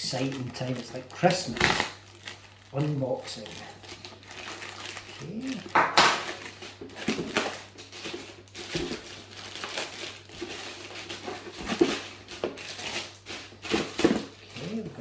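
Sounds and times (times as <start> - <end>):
parcel packaging crinkling: 0.0 - 15.0.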